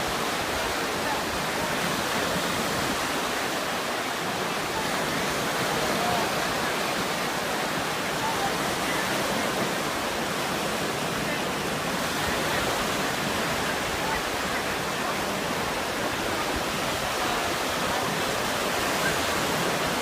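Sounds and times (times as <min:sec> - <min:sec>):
surf breaking on beach: 0:00.0 - 0:20.0.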